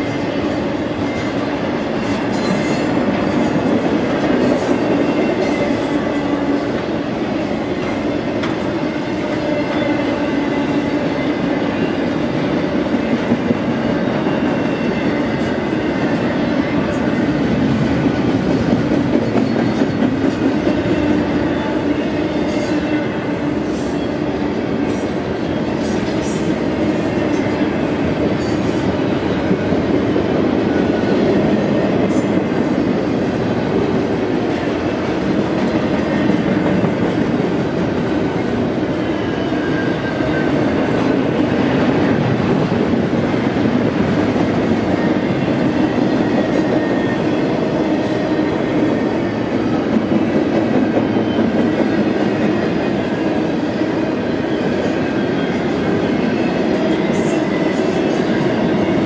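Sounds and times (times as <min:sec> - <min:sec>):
train wheels rumbling and rattling: 0:00.0 - 0:59.0.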